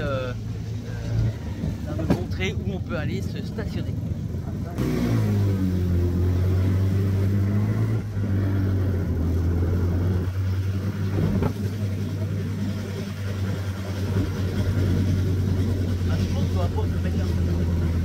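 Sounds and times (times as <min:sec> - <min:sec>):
motorcycle engine drone: 0:00.0 - 0:18.0
wind and road noise: 0:00.0 - 0:18.0.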